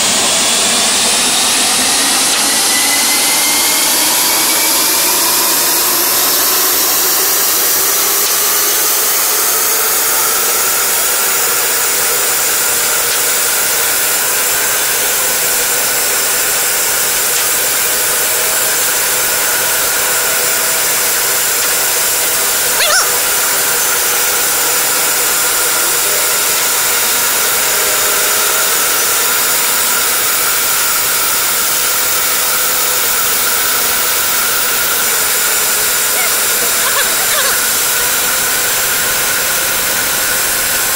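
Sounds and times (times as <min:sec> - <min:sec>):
band saw whine and hiss: 0:00.0 - 0:40.9.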